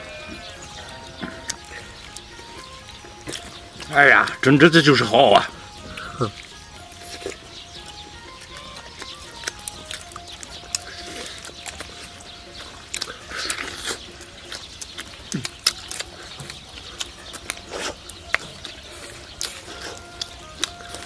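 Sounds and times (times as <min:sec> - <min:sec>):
wet chewing and lip smacks: 0:00.0 - 0:03.8, 0:06.3 - 0:21.0.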